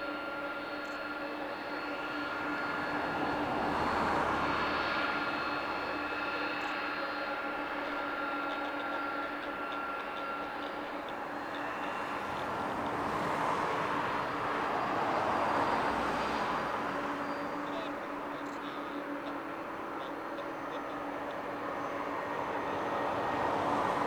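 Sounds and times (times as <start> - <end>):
jet engines passing: 0.0 - 24.0.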